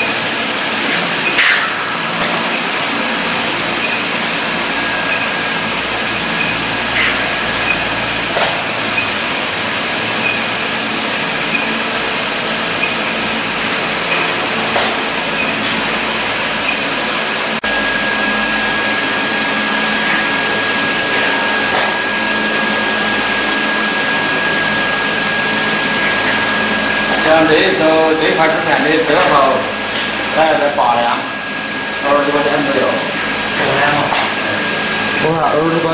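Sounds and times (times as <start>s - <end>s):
machine whirring with high whine: 0.0s - 35.9s.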